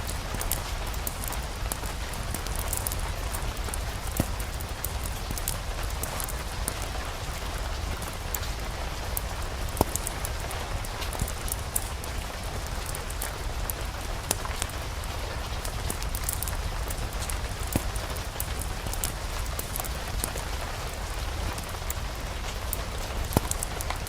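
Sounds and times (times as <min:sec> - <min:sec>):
rain falling: 0:00.0 - 0:24.0
sharp crackles: 0:00.0 - 0:24.0.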